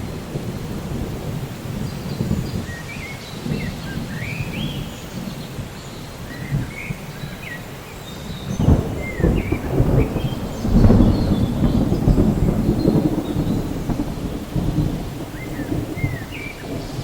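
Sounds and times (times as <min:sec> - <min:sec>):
rolling thunder: 0:00.0 - 0:07.2, 0:08.3 - 0:17.0
steady rain: 0:00.0 - 0:17.0.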